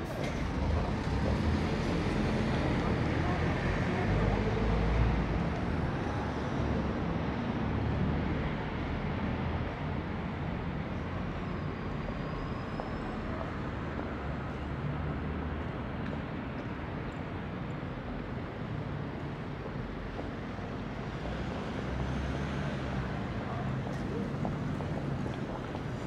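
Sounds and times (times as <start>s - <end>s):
low traffic rumble: 0.0s - 26.0s.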